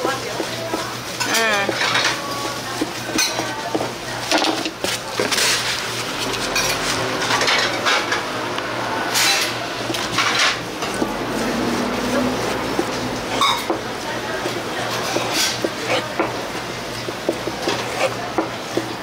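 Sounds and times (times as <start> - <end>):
dishes and utensils clinking: 0.0 - 5.7, 6.4 - 8.3, 9.1 - 19.0.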